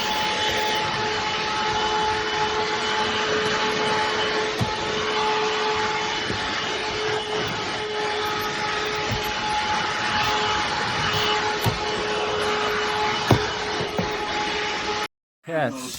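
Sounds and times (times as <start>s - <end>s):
handheld vacuum cleaner running: 0.0s - 14.4s.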